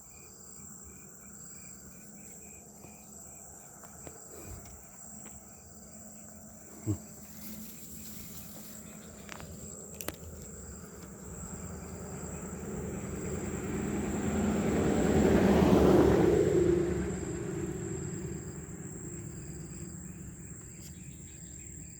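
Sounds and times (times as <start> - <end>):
insects chirring: 0.0 - 21.9.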